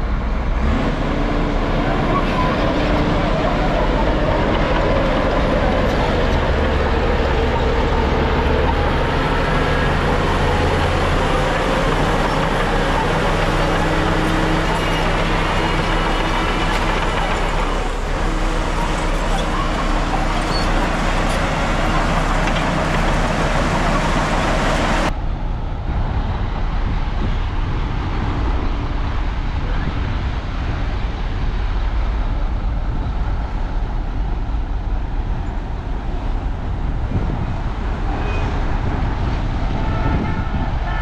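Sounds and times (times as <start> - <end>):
diesel machinery engine drone: 0.0 - 41.0.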